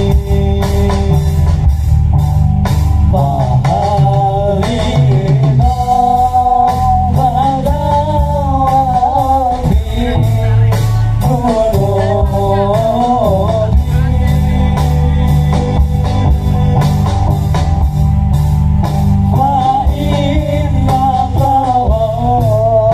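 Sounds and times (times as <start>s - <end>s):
live band playing through speakers: 0.0s - 22.9s.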